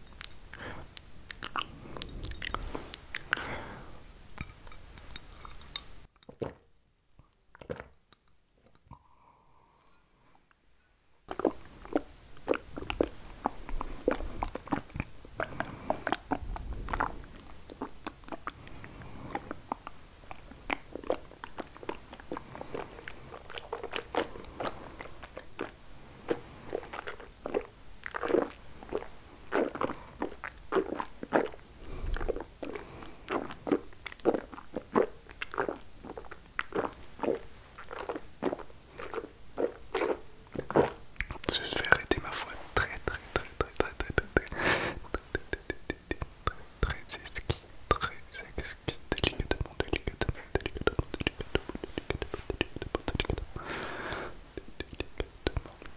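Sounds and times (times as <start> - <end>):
wet mouth clicks and smacks: 0.0 - 3.4, 11.3 - 55.9.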